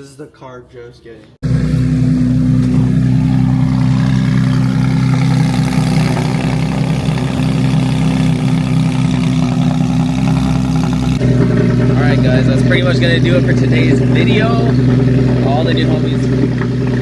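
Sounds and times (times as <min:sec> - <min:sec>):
car engine running loudly: 0:01.4 - 0:17.0.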